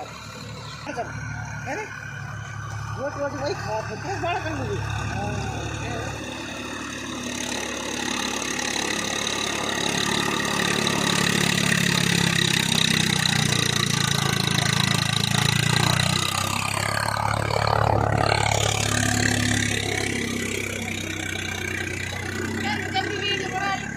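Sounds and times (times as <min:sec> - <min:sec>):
diesel tractor engine running: 0:00.0 - 0:23.9.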